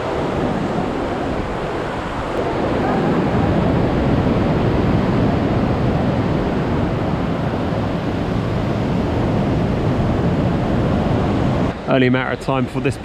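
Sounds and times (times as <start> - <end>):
sea washing in a cave: 0.0 - 12.7
wind buffeting microphone: 0.0 - 13.0.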